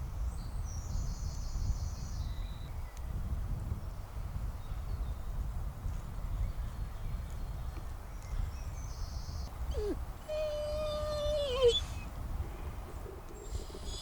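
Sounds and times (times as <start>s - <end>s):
low woodland rumble: 0.0s - 14.0s.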